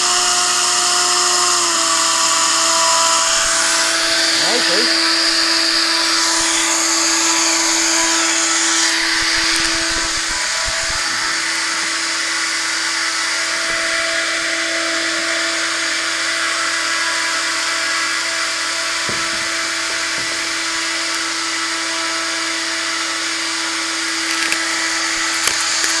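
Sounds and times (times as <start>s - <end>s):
electric motor propeller whine: 0.0s - 26.0s.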